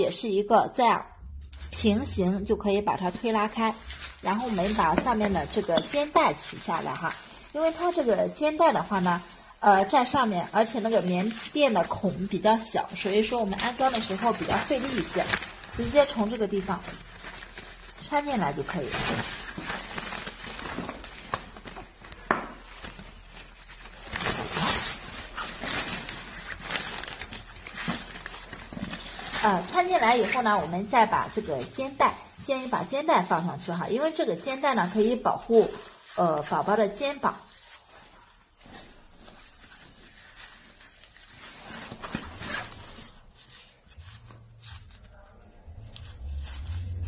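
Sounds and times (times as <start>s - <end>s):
fabric rustling and scraping: 1.5s - 47.0s.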